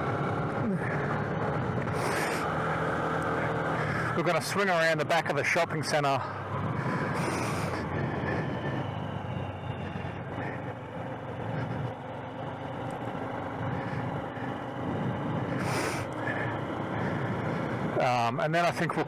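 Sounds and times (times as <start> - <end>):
road and wind noise: 0.0 - 19.0
small motorcycle engine running: 0.0 - 19.0.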